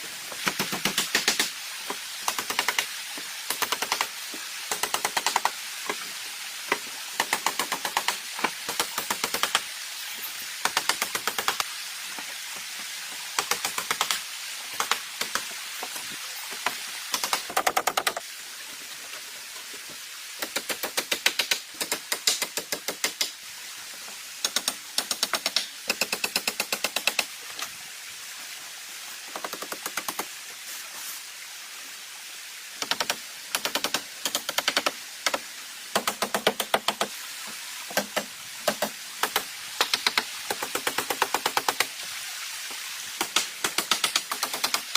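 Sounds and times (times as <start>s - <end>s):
background hiss: 0.0s - 44.9s.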